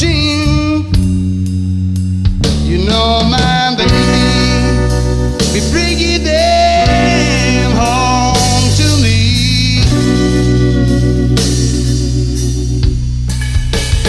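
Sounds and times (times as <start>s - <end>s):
blues rock song with singer: 0.0s - 13.4s.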